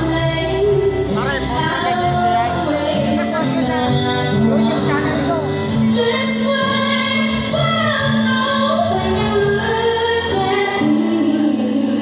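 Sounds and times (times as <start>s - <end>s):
musical accompaniment: 0.0s - 12.0s
woman singing into microphone: 0.0s - 12.0s.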